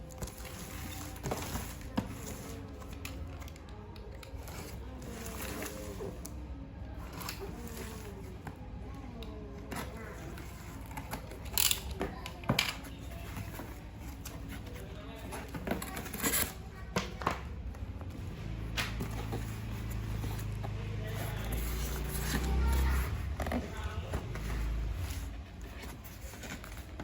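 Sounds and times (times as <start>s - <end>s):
handling knocks and rustles: 0.0s - 6.3s, 7.0s - 27.0s.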